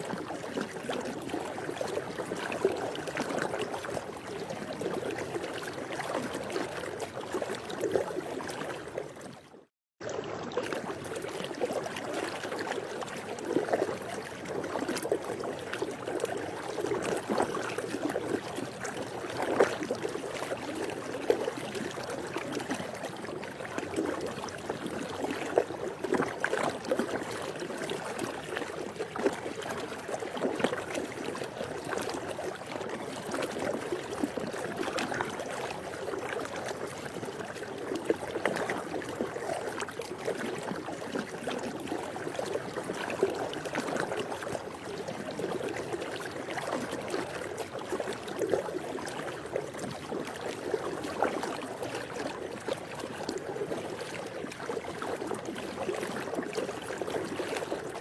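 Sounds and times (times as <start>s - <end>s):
pool water splashing and gurgling: 0.0s - 58.0s.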